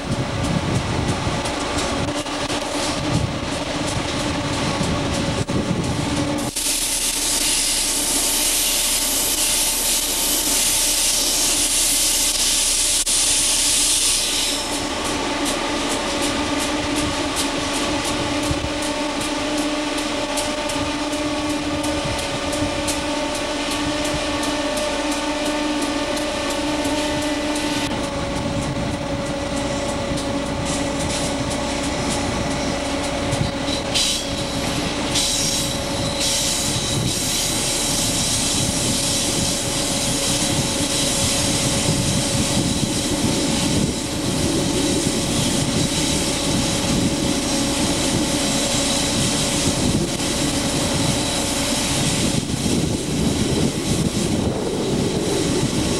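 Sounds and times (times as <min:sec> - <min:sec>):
locomotive hum with tones: 0:00.0 - 0:55.9
wheel and rail rumbling: 0:00.0 - 0:55.9
loud hiss: 0:06.4 - 0:27.9, 0:30.6 - 0:55.9.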